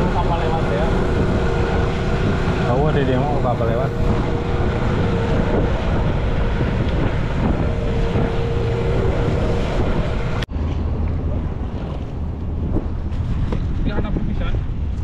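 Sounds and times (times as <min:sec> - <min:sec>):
outboard motor running: 0:00.0 - 0:13.6
wind buffeting microphone: 0:00.0 - 0:15.0.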